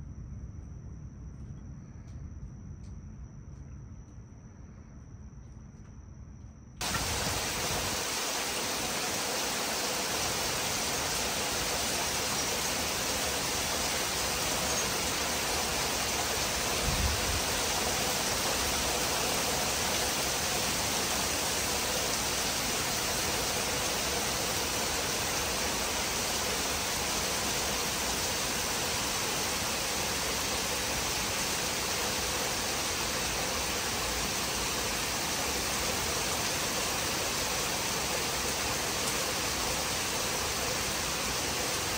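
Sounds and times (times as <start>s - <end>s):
heavy rain pouring: 6.8s - 41.9s.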